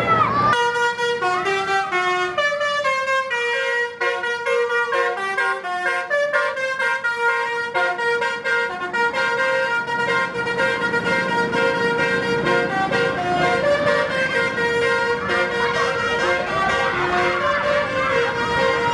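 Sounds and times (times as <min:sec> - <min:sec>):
musical bus horn melody: 0:00.0 - 0:18.9.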